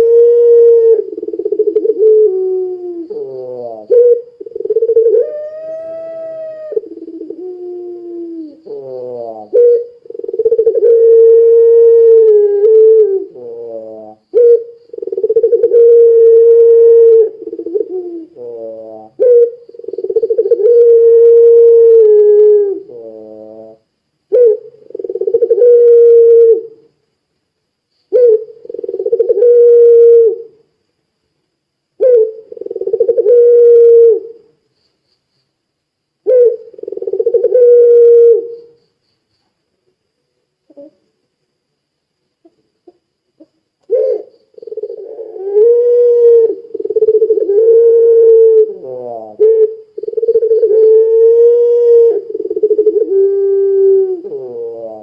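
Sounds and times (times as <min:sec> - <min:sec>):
turtle-dove cooing: 0:00.0 - 0:26.9, 0:28.1 - 0:30.7, 0:32.0 - 0:34.6, 0:36.2 - 0:39.0, 0:40.6 - 0:41.2, 0:42.4 - 0:55.0.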